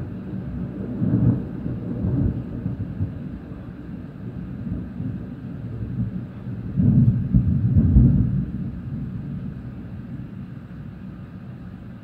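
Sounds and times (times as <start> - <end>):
rolling thunder: 0.0 - 10.9.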